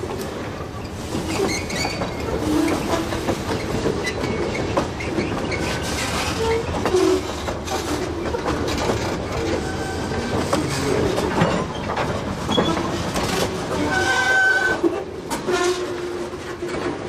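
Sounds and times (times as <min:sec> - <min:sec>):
freight train rolling slowly: 0:00.0 - 0:17.0
wheels clicking over rail joints: 0:00.0 - 0:17.0.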